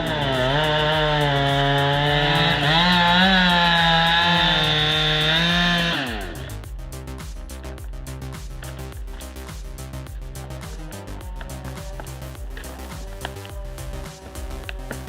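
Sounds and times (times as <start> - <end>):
chainsaw running: 0.0 - 6.7, 7.4 - 15.0
background music: 0.0 - 15.0.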